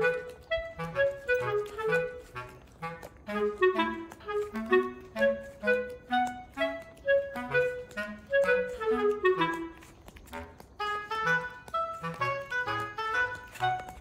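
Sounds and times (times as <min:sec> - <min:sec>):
light woodwind tune: 0:00.0 - 0:14.0.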